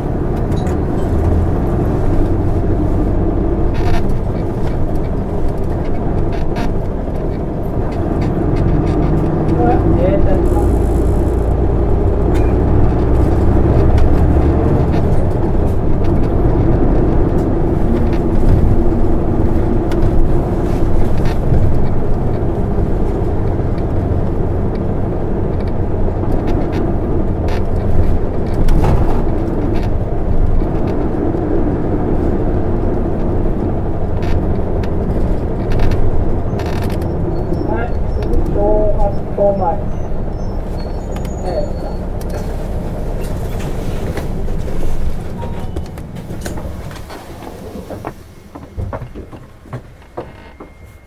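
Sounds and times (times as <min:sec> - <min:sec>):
faint clicks and rattles: 0:00.0 - 0:41.4
bus engine drone: 0:00.0 - 0:51.0
road noise: 0:00.0 - 0:51.0.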